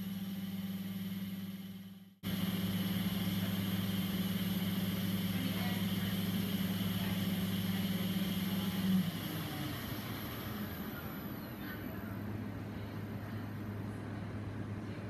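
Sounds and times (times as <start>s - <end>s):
mixer machine hum: 0.0s - 12.6s.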